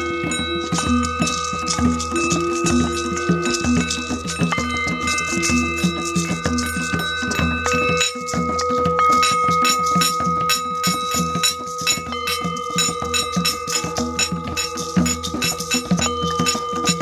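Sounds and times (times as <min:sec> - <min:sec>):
hand drum beat: 0:00.0 - 0:17.0
shaken percussion: 0:00.0 - 0:17.0
singing bowls ringing: 0:00.0 - 0:17.0.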